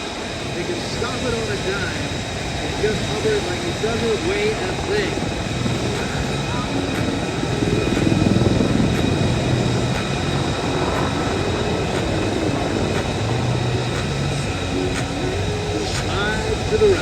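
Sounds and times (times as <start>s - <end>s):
helicopter rotor and engine roar: 0.0s - 17.0s
turbine whine: 0.0s - 17.0s.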